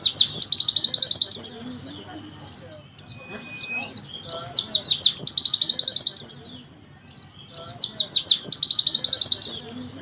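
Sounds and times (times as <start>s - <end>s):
bird singing trills: 0.0s - 10.0s.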